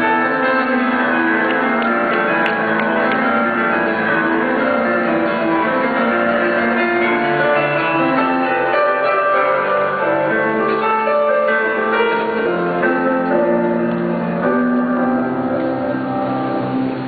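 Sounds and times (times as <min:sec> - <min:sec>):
bachata music: 0:00.0 - 0:17.0.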